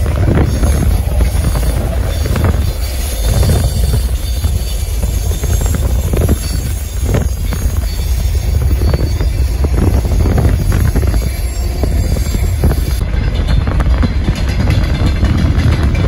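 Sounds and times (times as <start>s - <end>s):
freight train rumbling: 0.0s - 16.0s
wheels and couplings clanking: 0.0s - 16.0s.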